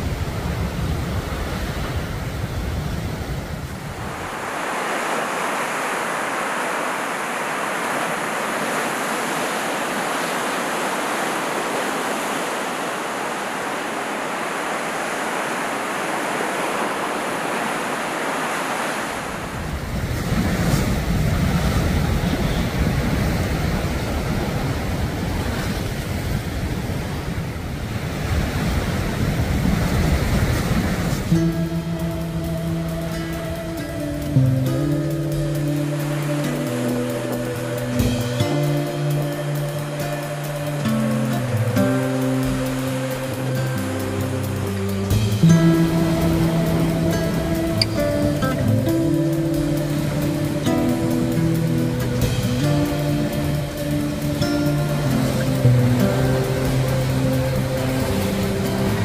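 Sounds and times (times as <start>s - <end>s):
waves crashing over rocks: 0.0s - 59.0s
wind rumble on microphone: 0.0s - 59.0s.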